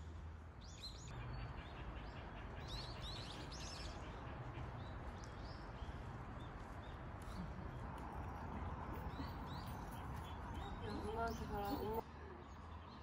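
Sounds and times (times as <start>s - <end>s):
small birds chirping: 0.6s - 13.0s.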